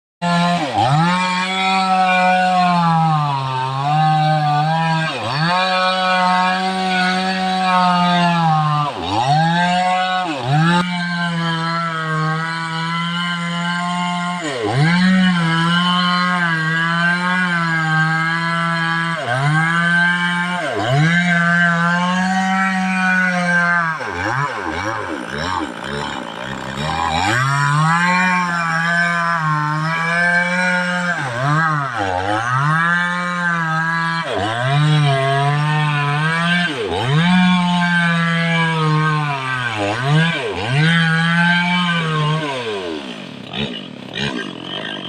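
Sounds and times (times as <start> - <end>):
chainsaw revving: 0.2 - 45.0.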